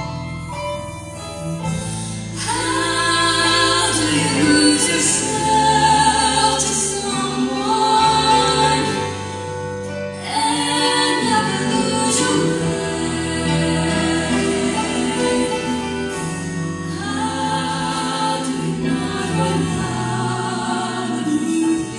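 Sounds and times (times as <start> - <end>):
choir singing harmonised notes: 0.0 - 21.9
instrumental accompaniment: 0.0 - 21.9.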